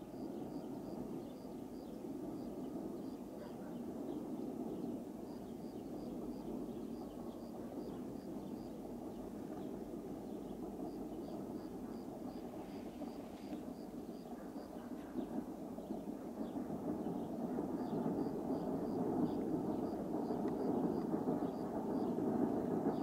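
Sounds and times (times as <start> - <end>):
distant locomotive rumbling: 0.0 - 23.0.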